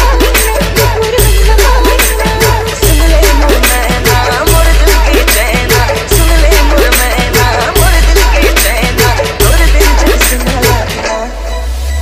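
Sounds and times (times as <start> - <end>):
dance music with heavy bass beat: 0.0 - 12.0.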